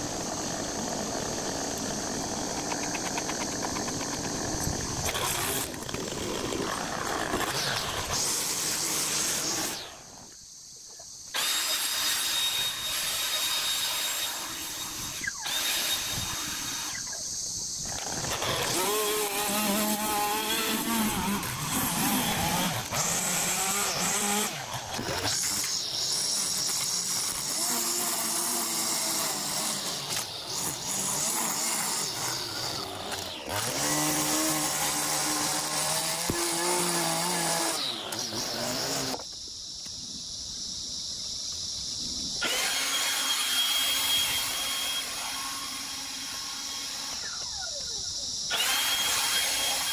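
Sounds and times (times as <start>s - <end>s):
string trimmer cutting grass: 0.0s - 10.4s, 11.3s - 39.4s, 42.4s - 49.9s.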